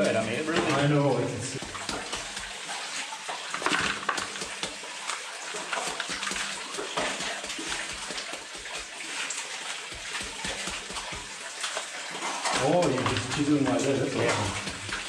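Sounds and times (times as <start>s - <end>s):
water sloshing in a pan: 0.0s - 15.0s.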